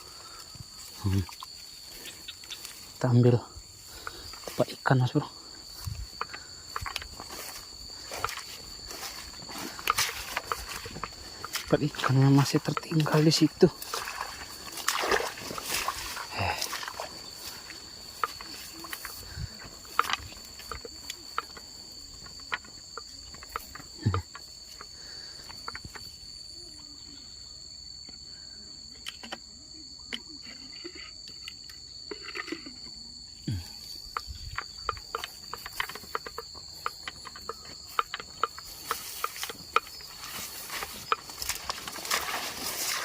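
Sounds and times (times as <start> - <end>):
insects trilling: 0.0 - 43.0.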